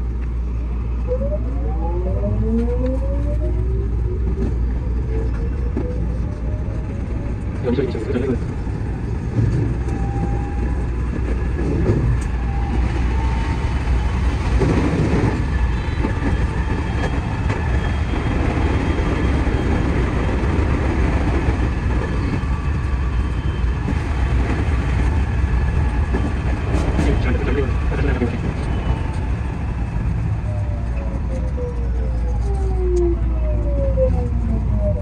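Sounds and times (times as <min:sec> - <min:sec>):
train wheels on rails rumbling: 0:03.3 - 0:32.6.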